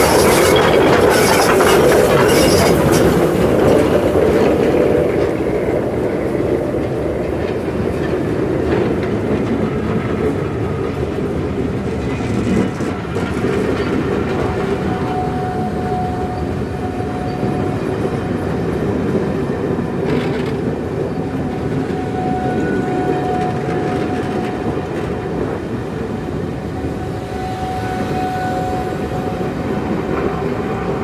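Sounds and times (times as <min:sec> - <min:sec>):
train rumbling: 0:00.0 - 0:31.0
wheels clattering over rail joints: 0:00.0 - 0:31.0.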